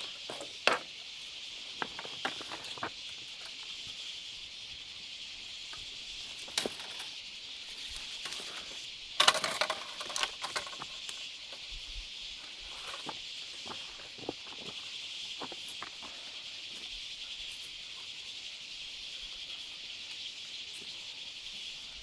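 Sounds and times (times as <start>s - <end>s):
high insect chorus: 0.0s - 22.0s.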